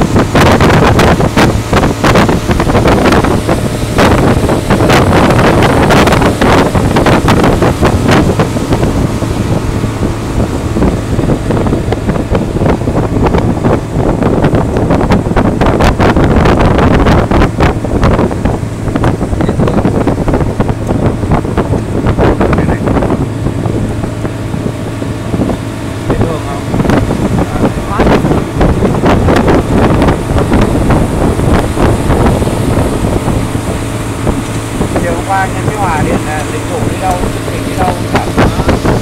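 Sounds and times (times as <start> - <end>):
boat engine drone: 0.0 - 39.0
water rushing along hull: 0.0 - 39.0
wind buffeting microphone: 0.0 - 39.0.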